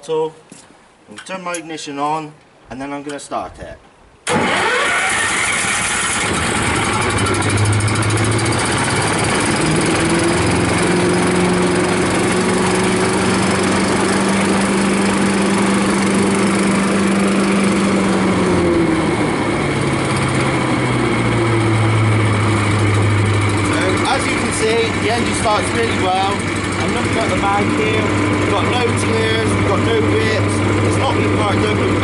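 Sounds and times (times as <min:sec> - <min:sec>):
petrol engine starting and running: 0:04.3 - 0:32.0
suction fan whirring: 0:04.3 - 0:32.0.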